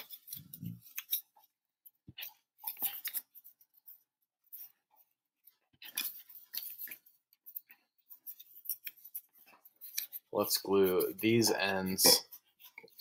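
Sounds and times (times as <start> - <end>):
scrapes and rustles: 0.0 - 13.0.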